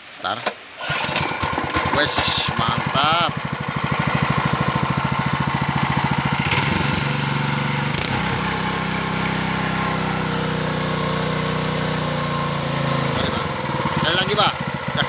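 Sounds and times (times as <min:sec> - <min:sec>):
small gasoline engine running: 0:00.8 - 0:15.0.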